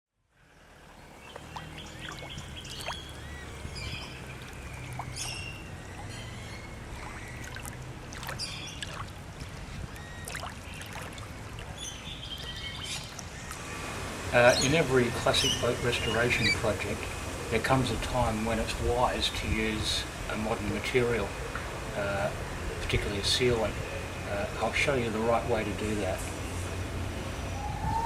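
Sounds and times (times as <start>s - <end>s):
small birds chirping: 0.5s - 28.0s.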